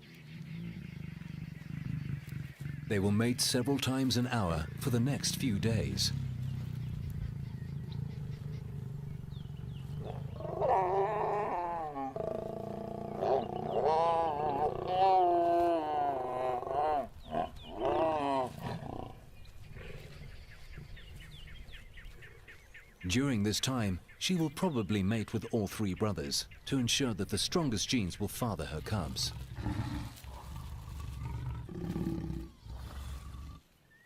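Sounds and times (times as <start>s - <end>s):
lions snarling and growling: 0.2s - 22.6s, 28.6s - 33.8s.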